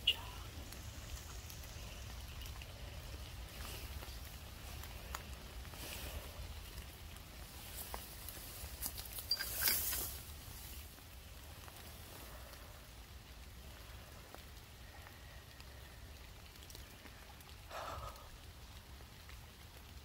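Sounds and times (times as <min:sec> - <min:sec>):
faint steady hiss: 0:00.0 - 0:20.0
rustling of wet grass: 0:00.0 - 0:20.0.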